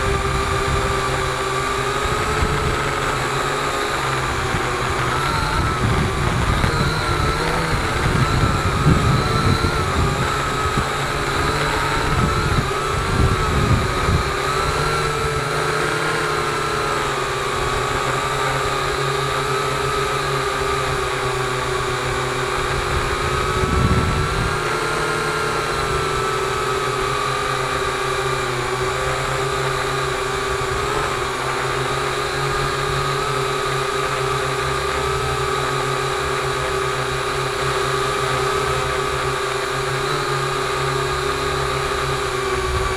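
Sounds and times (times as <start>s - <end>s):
drone propellers whining: 0.0s - 42.9s
wind buffeting microphone: 0.0s - 42.9s.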